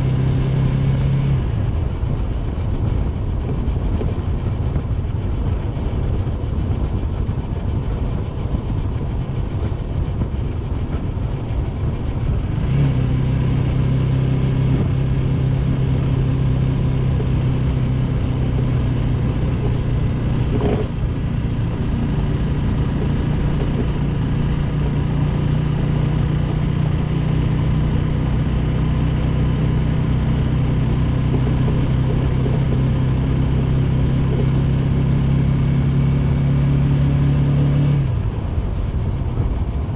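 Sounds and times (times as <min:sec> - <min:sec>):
low engine hum: 0:00.0 - 0:39.9
road rumble: 0:00.0 - 0:39.9
wind: 0:00.0 - 0:39.9.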